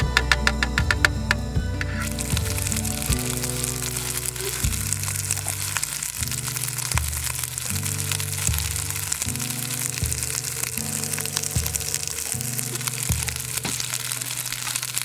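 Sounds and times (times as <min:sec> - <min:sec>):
background music with low notes: 0:00.0 - 0:15.0
food sizzling over a campfire: 0:02.0 - 0:15.0.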